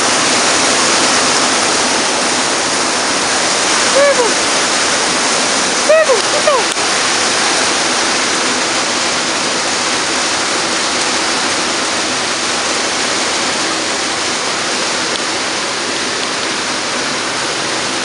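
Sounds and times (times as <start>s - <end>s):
heavy rain on a roof: 0.0s - 18.0s.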